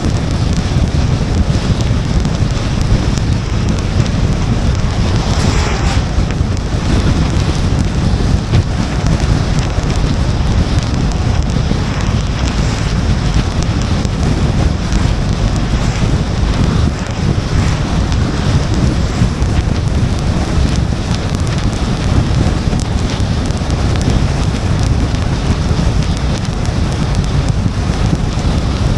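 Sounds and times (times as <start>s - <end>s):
rain against car: 0.0s - 28.9s
tyre and road noise: 0.0s - 28.9s
wind against car: 0.0s - 28.9s.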